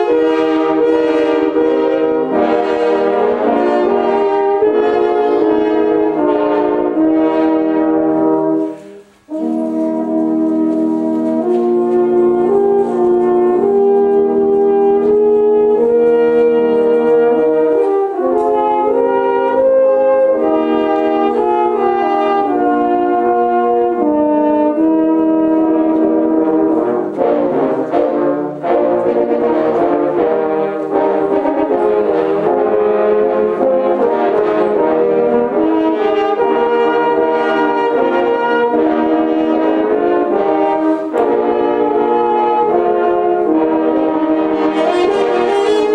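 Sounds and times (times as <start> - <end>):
french horn ensemble playing: 0.0 - 45.9.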